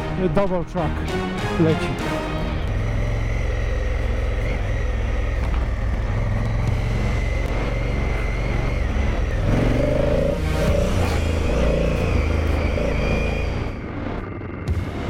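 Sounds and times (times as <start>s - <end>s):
motorcycle engine running: 2.0s - 15.0s.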